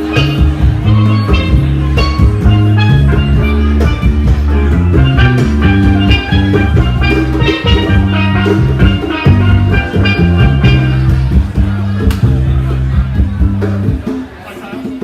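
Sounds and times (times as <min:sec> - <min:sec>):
band playing music: 0:00.0 - 0:15.0.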